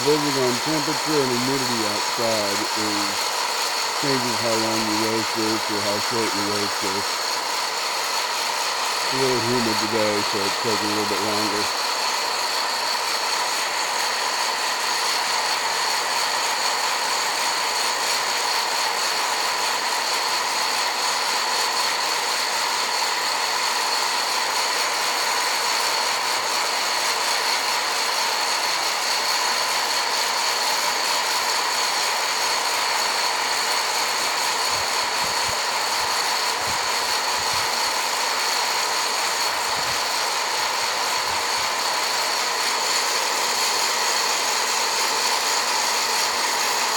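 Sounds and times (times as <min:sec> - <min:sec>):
coffee roaster fan whirring: 0:00.0 - 0:46.9.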